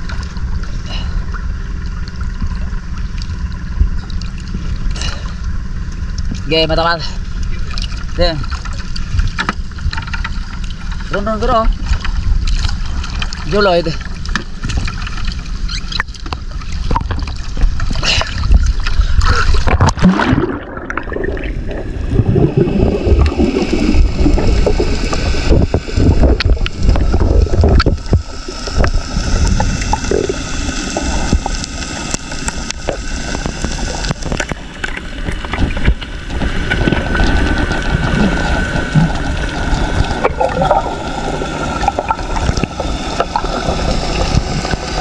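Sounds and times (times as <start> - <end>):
low rumble: 0.0 - 45.0
underwater rushing and gurgling: 0.0 - 45.0
water sloshing and splashing: 0.0 - 45.0.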